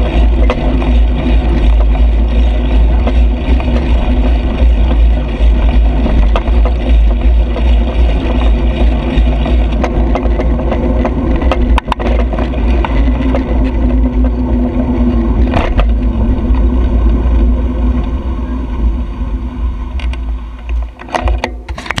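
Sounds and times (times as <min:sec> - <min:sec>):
bicycle clicks and rattles: 0:00.0 - 0:22.0
wind buffeting microphone: 0:00.0 - 0:22.0.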